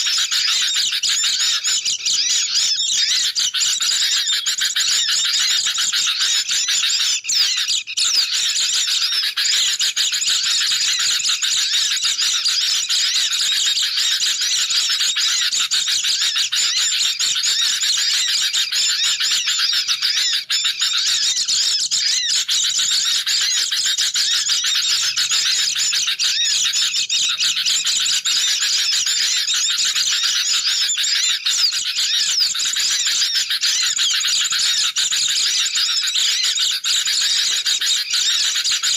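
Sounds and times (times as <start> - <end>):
many birds chirping: 0.0 - 38.9.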